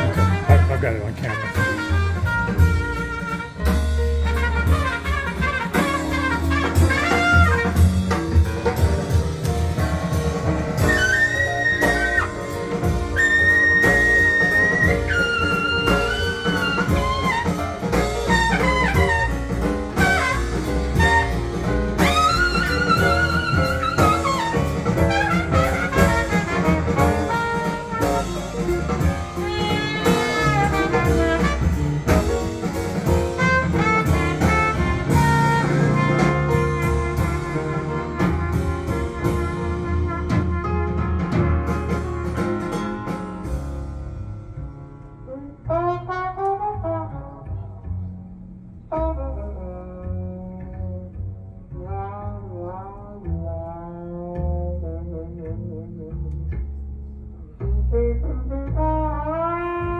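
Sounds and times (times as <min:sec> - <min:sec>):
drum kit: 0:00.0 - 0:59.9
jazz with brass lead: 0:00.0 - 0:59.9.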